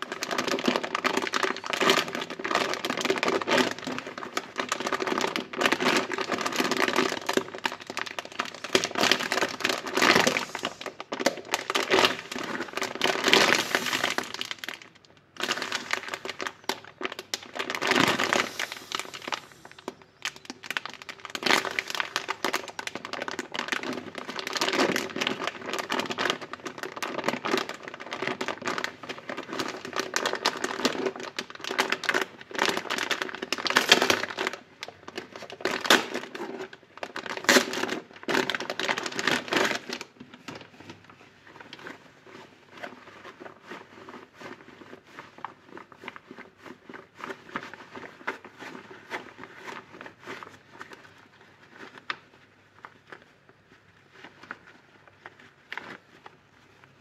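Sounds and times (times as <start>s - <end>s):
plastic bag crinkling: 0.0s - 57.0s.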